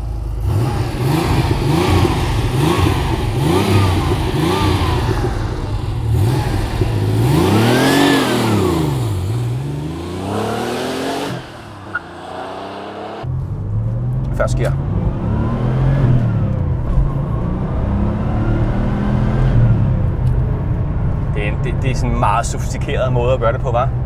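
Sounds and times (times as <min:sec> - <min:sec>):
car engine revving: 0:00.0 - 0:23.6.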